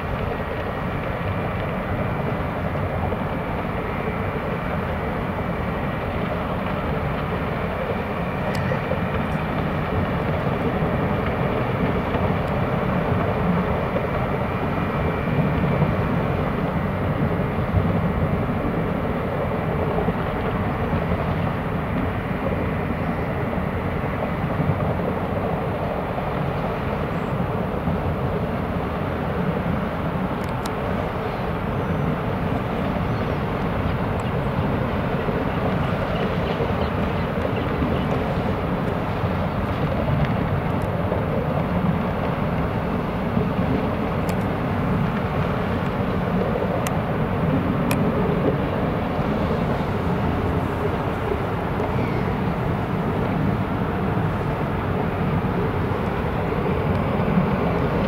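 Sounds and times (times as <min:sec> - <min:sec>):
churned water rushing: 0:00.0 - 0:58.0
ship engines low rumble: 0:00.0 - 0:58.0.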